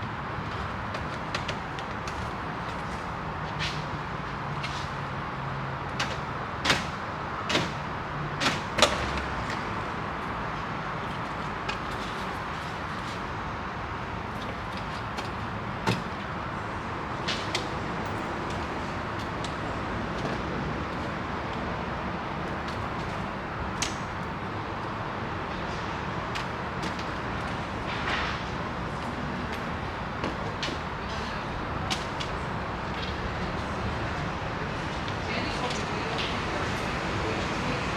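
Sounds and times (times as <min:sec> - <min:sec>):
steady background noise: 0:00.0 - 0:37.9.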